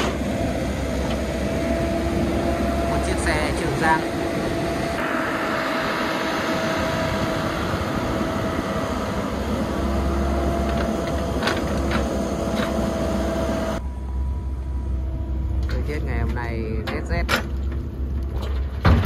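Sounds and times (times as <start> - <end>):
excavator engine and hydraulics whine: 0.0 - 19.0.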